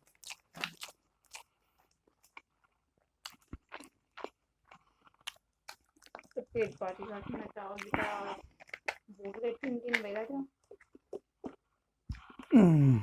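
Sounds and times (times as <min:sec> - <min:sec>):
chewing food: 0:00.0 - 0:12.6
food crunching: 0:00.0 - 0:12.6.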